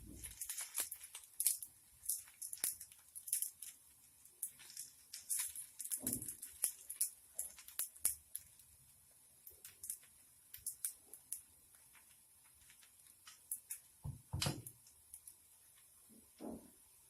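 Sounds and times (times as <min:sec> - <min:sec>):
oil sizzling and popping: 0:00.0 - 0:17.0.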